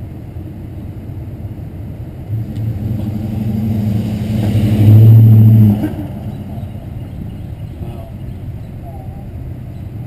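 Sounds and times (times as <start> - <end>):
wind and road noise rumble: 0.0 - 10.0.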